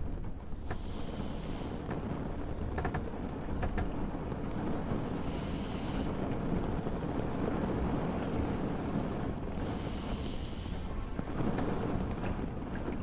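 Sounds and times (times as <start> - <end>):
low rumble of boat and wind: 0.0 - 13.0.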